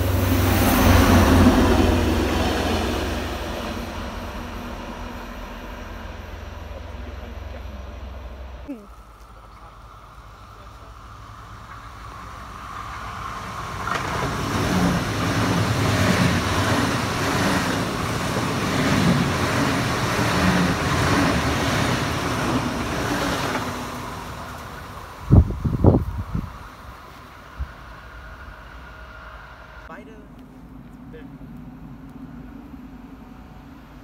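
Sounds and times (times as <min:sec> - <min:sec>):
train wheel and rail noise: 0:00.0 - 0:34.0.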